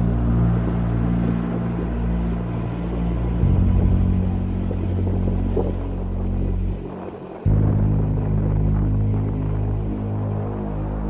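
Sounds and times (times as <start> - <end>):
ship engine drone: 0.0 - 11.0.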